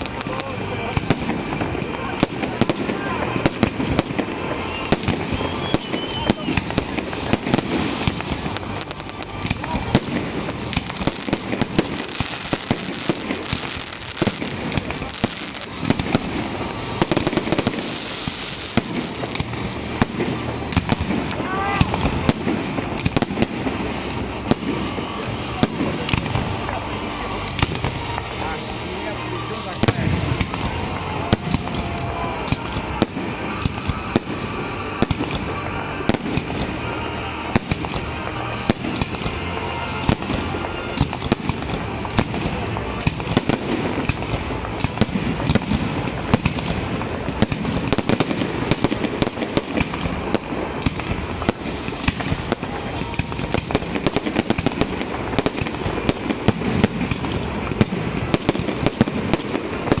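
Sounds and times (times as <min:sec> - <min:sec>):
fireworks bursting: 0:00.0 - 1:00.0.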